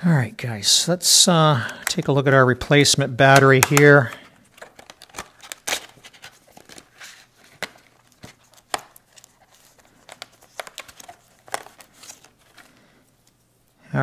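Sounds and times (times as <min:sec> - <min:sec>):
plastic packaging crinkling: 0:01.6 - 0:13.4.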